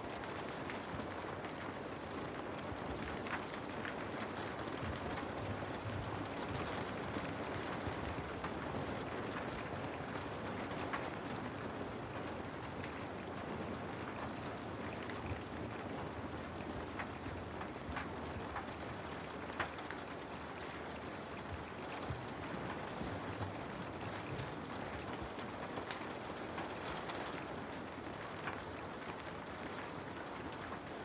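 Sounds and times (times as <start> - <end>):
rain on a window: 0.0 - 31.0
raindrop taps: 2.5 - 31.0.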